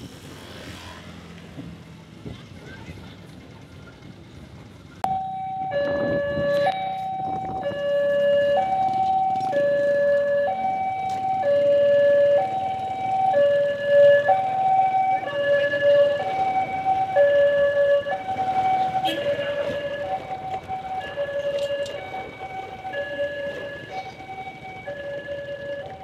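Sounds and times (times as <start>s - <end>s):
two-tone siren: 5.0s - 26.0s.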